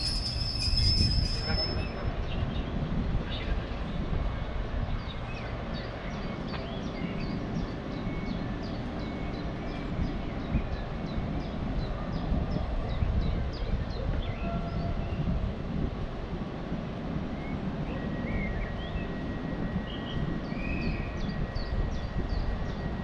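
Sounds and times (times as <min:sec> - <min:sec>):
electric train low rumble: 0:00.0 - 0:23.0.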